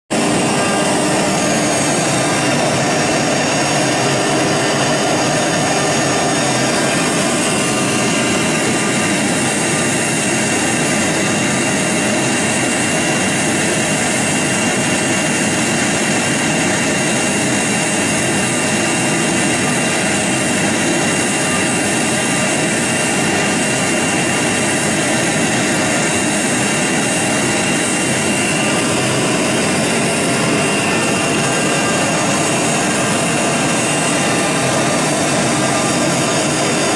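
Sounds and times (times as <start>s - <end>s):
router spindle high whine: 0.1s - 36.9s.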